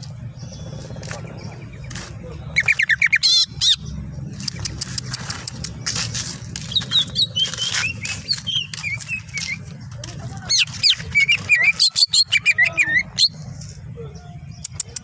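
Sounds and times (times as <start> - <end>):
bird singing chirps and trills: 0.0 - 15.0.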